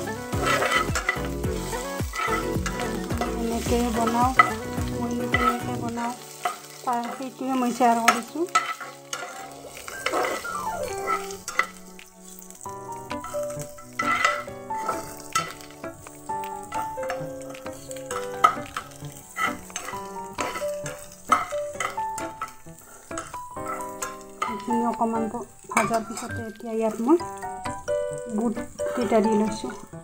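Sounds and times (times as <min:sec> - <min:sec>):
food sizzling in oil: 0:00.0 - 0:30.0
instrumental melody: 0:00.0 - 0:30.0
spatula scraping a pan: 0:00.0 - 0:30.0.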